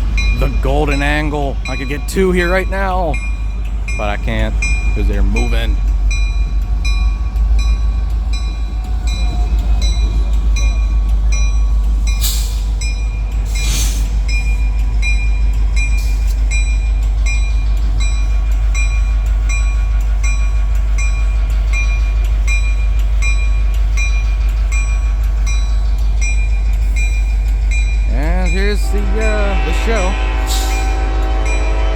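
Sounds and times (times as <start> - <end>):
crossing bell ringing: 0.0 - 31.9
diesel locomotives rumbling: 0.0 - 31.9.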